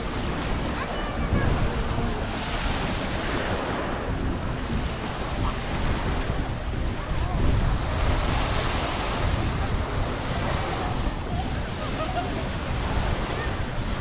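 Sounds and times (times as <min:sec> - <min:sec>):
waves washing onto beach: 0:00.0 - 0:14.0
wind buffeting microphone: 0:00.0 - 0:14.0.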